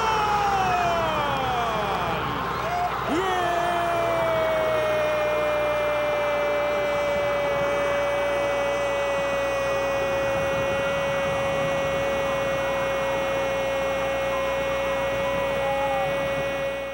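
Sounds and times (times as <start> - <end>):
steady hum: 0.0 - 16.9.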